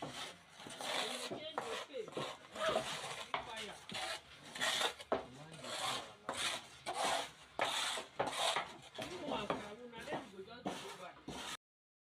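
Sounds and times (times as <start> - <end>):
cassava being grated: 0.0 - 11.6.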